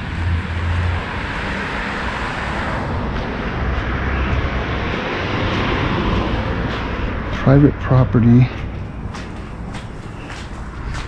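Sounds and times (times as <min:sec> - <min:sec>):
rushing road traffic: 0:00.0 - 0:11.0.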